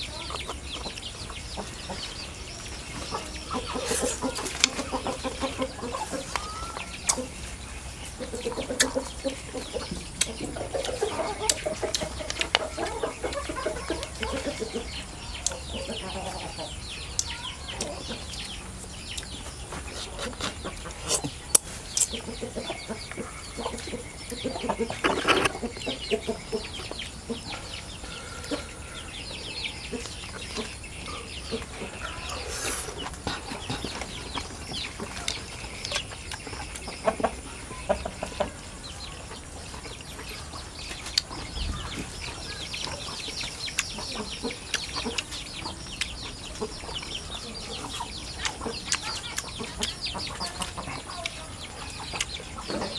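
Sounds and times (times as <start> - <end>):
chickens clucking: 0.0 - 52.9
chicks cheeping: 0.0 - 52.9.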